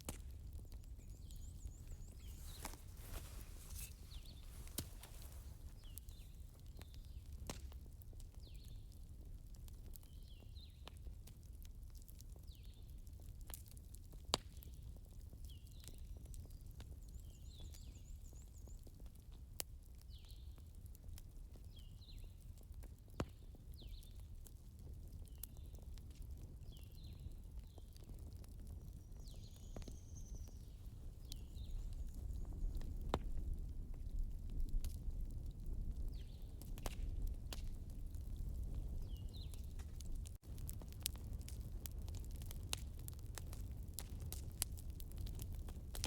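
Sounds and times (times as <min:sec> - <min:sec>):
fire crackling in a fireplace: 0:00.0 - 0:46.0.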